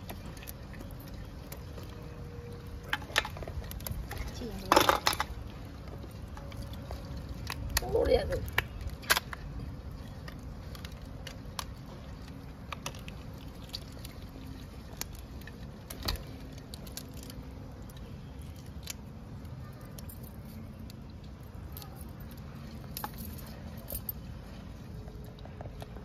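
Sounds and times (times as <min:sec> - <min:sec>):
light wet squelches: 0:00.0 - 0:26.0.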